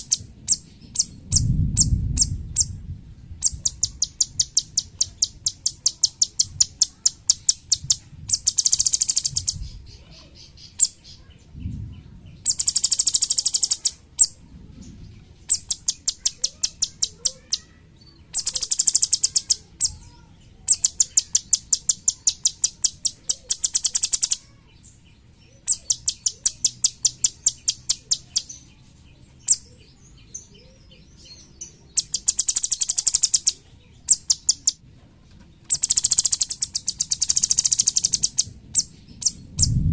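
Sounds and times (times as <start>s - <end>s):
bird singing rapid trills: 0.0s - 2.8s, 3.4s - 34.8s, 35.7s - 39.9s.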